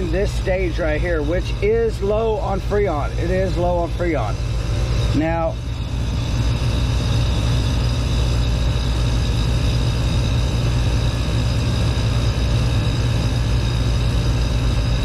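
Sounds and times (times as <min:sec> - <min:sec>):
rooftop hvac unit humming: 0:00.0 - 0:15.0.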